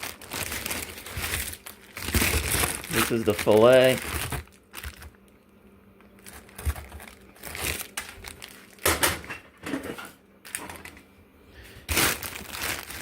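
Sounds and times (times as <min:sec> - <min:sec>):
plastic packaging crinkling: 0:00.0 - 0:09.3, 0:10.4 - 0:11.0, 0:11.8 - 0:13.0.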